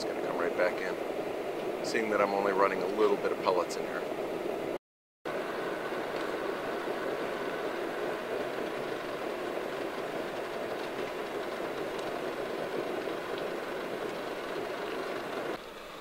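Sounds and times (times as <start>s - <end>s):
stove blower fan and flame roar: 0.0s - 16.0s.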